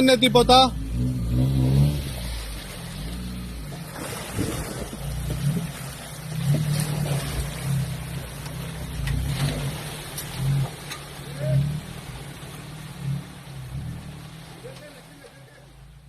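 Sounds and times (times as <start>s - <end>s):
car engine at low revs: 0.0s - 16.0s
water rushing and splashing: 0.0s - 16.0s.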